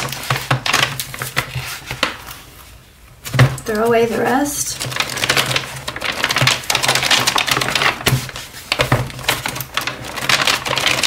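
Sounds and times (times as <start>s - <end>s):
stiff paper pages flipping: 0.0s - 3.8s, 4.7s - 11.0s.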